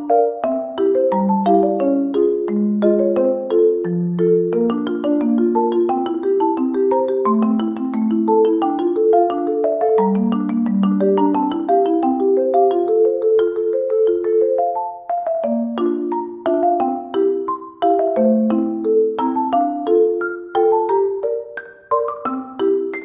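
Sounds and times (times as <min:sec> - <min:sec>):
marimba-like mallet melody: 0:00.0 - 0:23.0.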